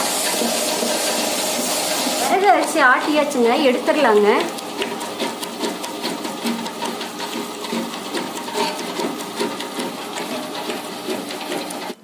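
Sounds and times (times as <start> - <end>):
wet grinder whirring and clicking: 0.0 - 12.0.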